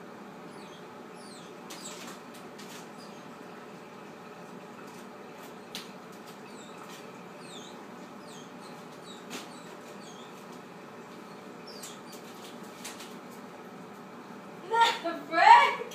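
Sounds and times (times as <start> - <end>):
steady room hum: 0.0 - 15.9.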